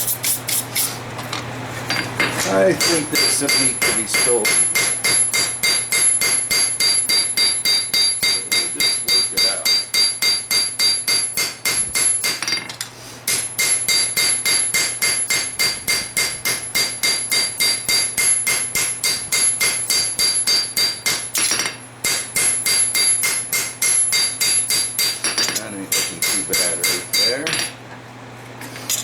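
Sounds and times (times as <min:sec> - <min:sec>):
hammer ringing on anvil: 0:01.9 - 0:12.7, 0:13.3 - 0:27.7.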